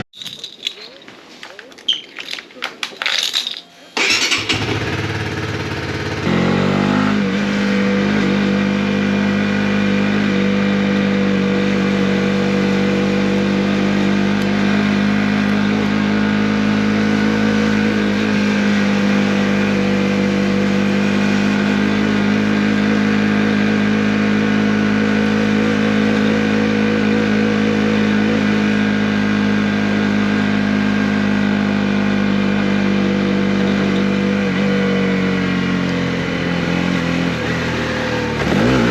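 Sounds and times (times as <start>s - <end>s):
motorcycle engine revving and idling: 4.0s - 38.9s.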